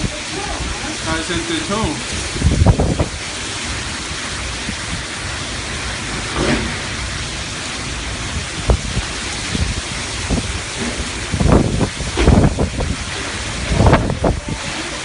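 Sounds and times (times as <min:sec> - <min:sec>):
gale wind: 0:00.0 - 0:15.0
torrential rain: 0:00.0 - 0:15.0.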